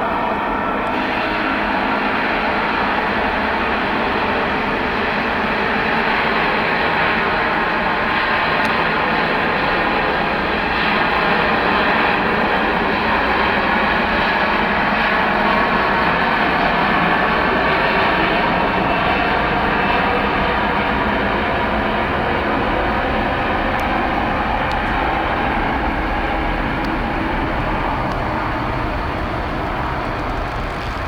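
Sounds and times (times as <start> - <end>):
jet engines running loud: 0.0 - 31.0.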